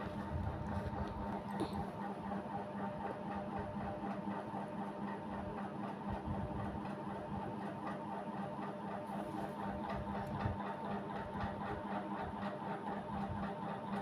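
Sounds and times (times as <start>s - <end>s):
mechanical hum with whine: 0.0s - 14.0s.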